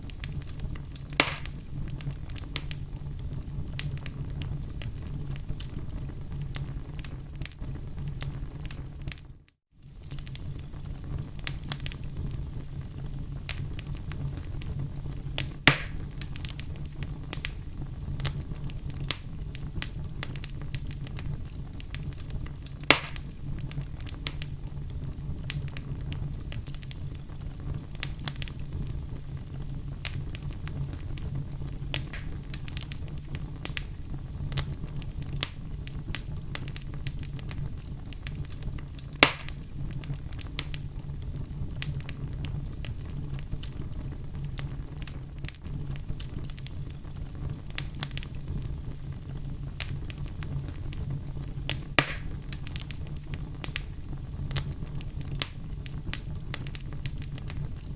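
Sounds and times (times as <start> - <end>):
sharp pops of fire: 0.0 - 57.9
wood fire crackling: 0.0 - 57.9.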